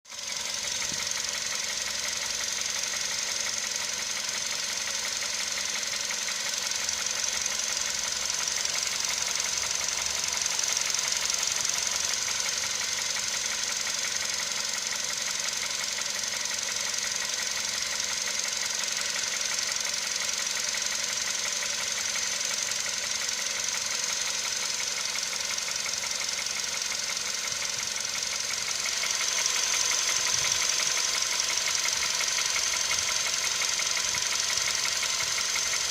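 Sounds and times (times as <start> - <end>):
car engine knocking: 0.1 - 35.9.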